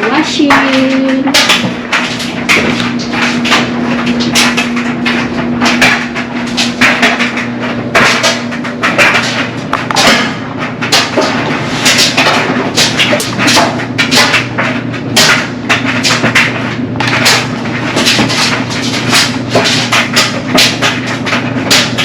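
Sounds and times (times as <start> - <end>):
machine hum: 0.0 - 22.0
sharp knocks and bangs: 0.0 - 22.0.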